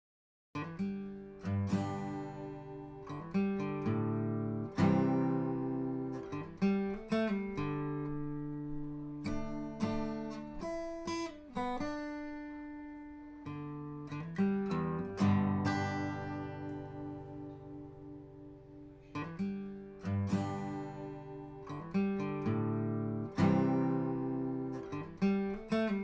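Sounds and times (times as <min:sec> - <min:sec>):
acoustic guitar playing: 0:00.6 - 0:26.0.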